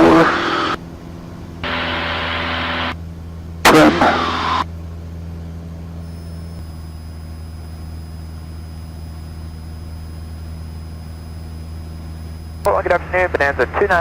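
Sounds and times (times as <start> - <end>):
faint high whine: 0.0 - 14.0
propeller engine droning: 0.0 - 14.0.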